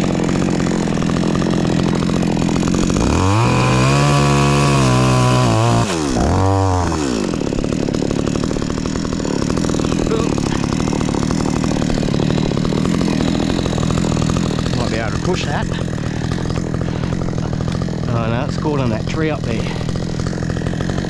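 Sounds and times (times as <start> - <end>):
chainsaw idling and revving: 0.0 - 21.0.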